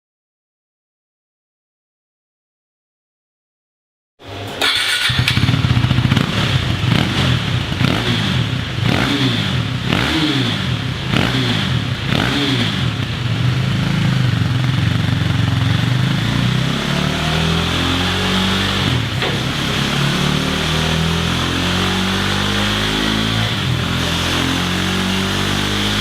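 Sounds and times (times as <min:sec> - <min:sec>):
motorcycle engine revving: 0:04.6 - 0:26.0.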